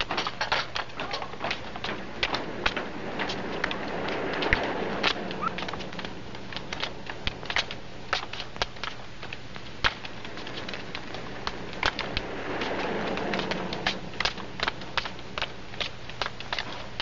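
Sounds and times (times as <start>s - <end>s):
footsteps on concrete stairs: 0.0s - 17.0s
steady hiss: 0.0s - 17.0s.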